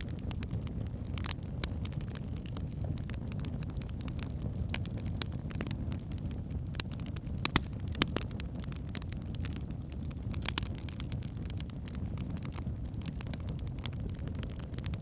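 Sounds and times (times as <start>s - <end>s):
fire crackling and popping: 0.0s - 15.0s
flames rumbling: 0.0s - 15.0s.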